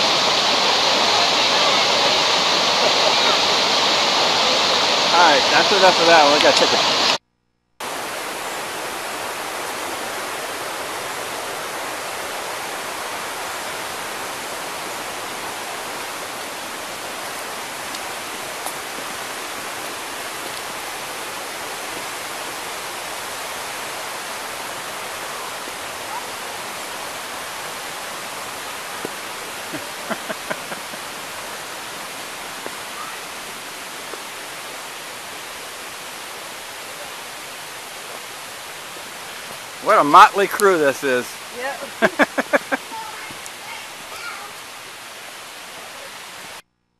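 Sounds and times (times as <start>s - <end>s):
waterfall rushing: 0.0s - 7.2s, 7.8s - 46.6s.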